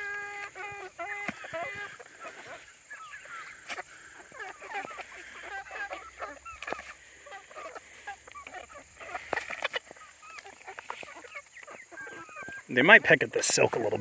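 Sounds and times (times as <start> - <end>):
dry corn husks crackling: 0.0 - 14.0
young chickens peeping: 0.0 - 14.0.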